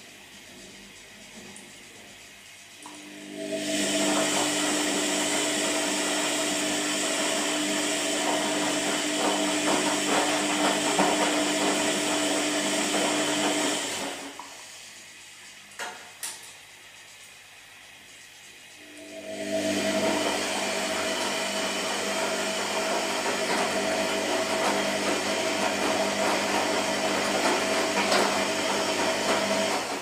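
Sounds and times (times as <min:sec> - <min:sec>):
washing machine churning: 0:00.0 - 0:30.0
washing machine motor humming: 0:00.0 - 0:30.0.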